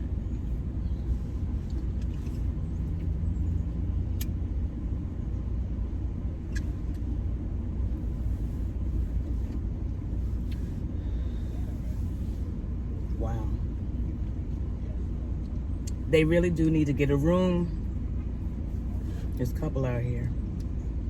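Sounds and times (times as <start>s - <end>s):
low rumble inside car: 0.0s - 21.0s.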